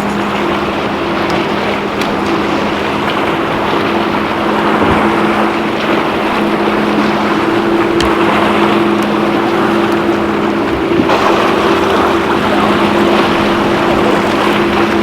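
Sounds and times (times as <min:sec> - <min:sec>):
boat motor running: 0:00.0 - 0:15.0
water noise: 0:00.0 - 0:15.0
wind: 0:00.0 - 0:15.0.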